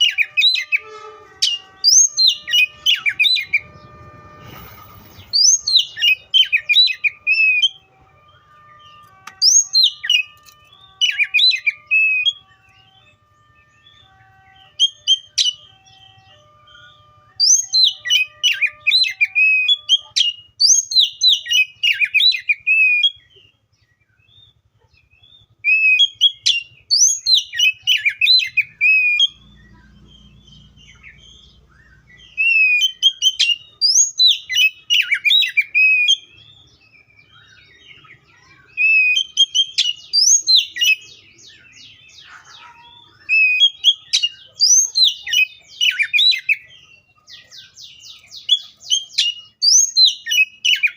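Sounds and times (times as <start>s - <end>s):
bird singing whistles and chirps: 0.0s - 50.9s.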